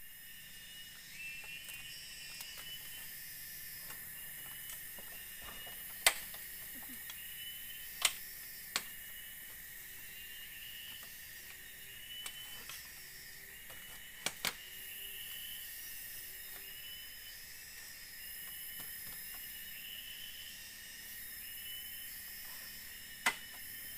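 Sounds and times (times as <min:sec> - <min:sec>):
forest insects droning: 0:00.0 - 0:23.9.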